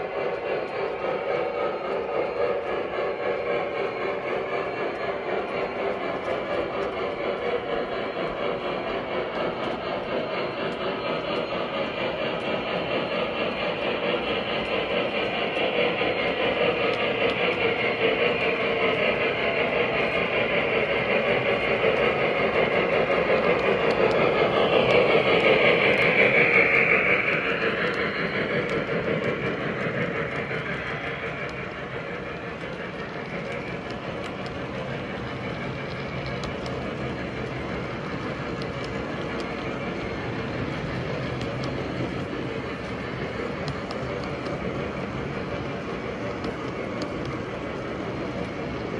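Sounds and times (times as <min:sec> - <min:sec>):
model train rolling on track: 0:00.0 - 0:48.9.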